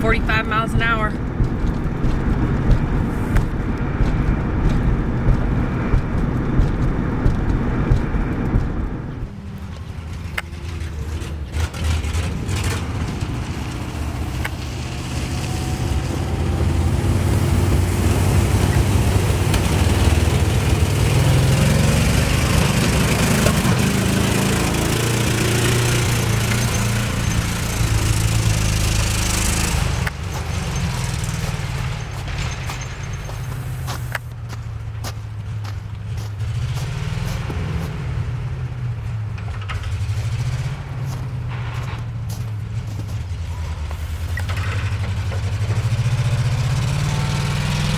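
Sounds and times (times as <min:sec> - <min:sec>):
truck engine running under load: 0:00.0 - 0:47.9
wind and road noise: 0:00.0 - 0:47.9.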